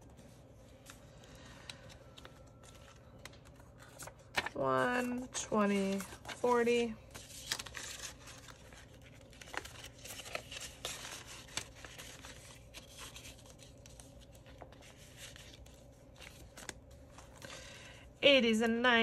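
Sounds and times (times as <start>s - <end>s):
paper and plastic rustling: 0.1s - 17.9s.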